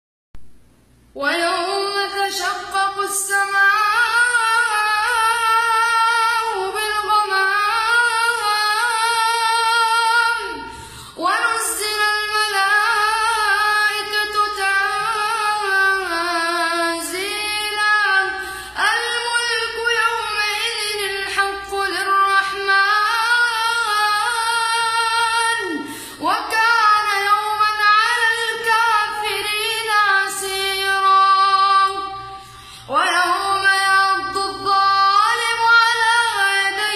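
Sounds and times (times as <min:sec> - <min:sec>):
boy chanting melodically: 0:01.3 - 0:36.9.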